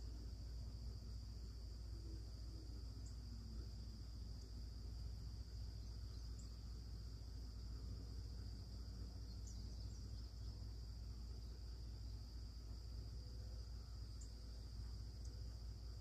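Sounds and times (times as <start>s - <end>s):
faint chirps: 0.0s - 16.0s.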